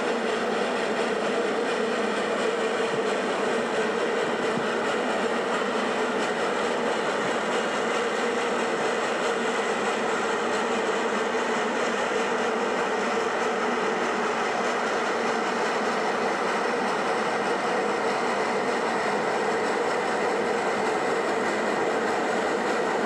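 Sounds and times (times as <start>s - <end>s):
steam locomotive climbing: 0.0s - 23.0s.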